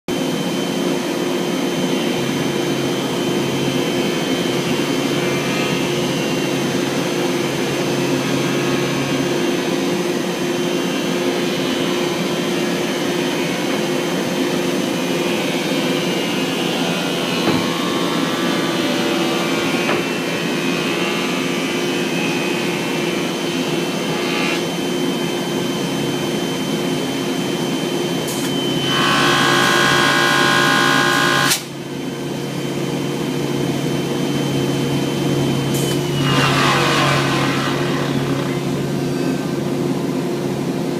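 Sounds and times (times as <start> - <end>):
vacuum cleaner running: 0.1 - 40.9.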